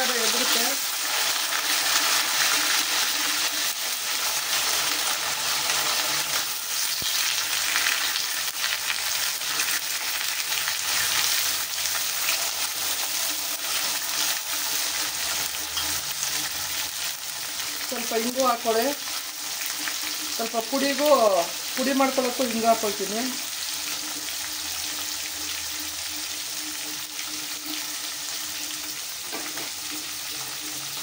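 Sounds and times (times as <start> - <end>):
eggplant frying in hot oil: 0.0 - 31.0.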